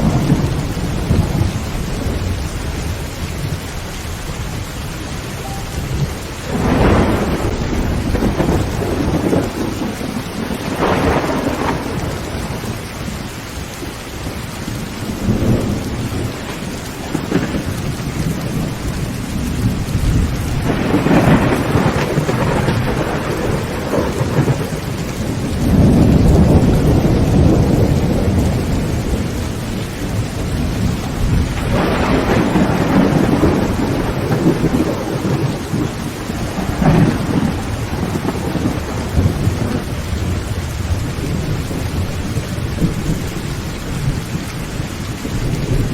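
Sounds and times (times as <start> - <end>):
heavy rain on a tin roof: 0.0 - 45.9
thunder rumbling: 0.0 - 45.9.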